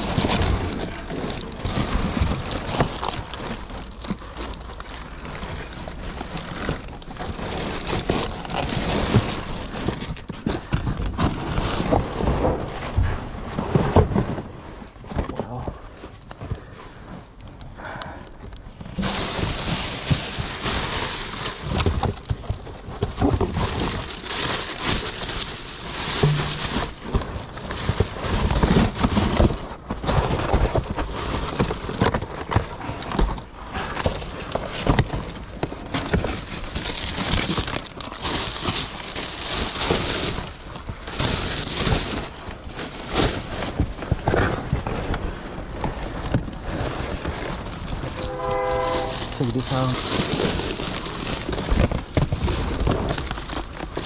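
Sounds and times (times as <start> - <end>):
boxes and bags rustling and knocking: 0.0 - 54.0.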